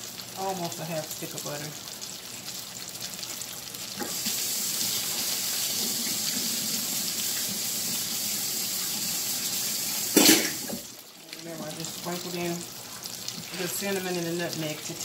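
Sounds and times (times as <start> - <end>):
kitchen faucet running: 0.0 - 2.2, 3.0 - 15.0
faint sizzle of frying pans: 0.0 - 15.0.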